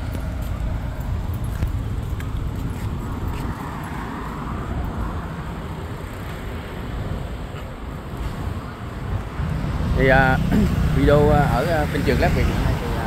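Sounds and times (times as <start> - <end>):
cars passing: 0.0 - 13.0
motorbikes passing: 0.0 - 13.0
trucks passing: 0.0 - 13.0.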